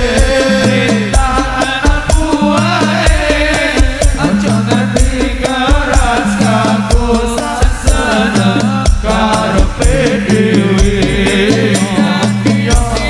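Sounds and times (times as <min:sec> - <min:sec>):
frame drums and bass drum: 0:00.0 - 0:13.0.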